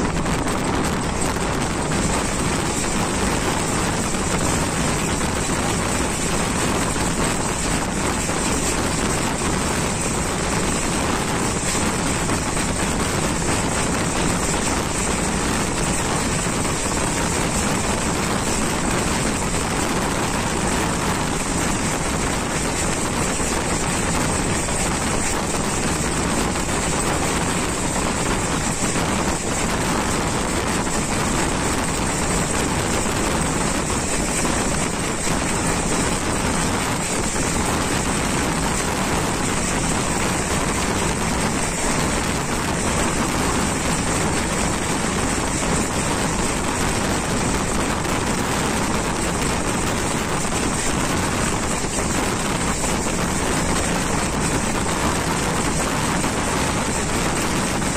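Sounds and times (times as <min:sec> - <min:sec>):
train rushing on rails: 0:00.0 - 0:57.9.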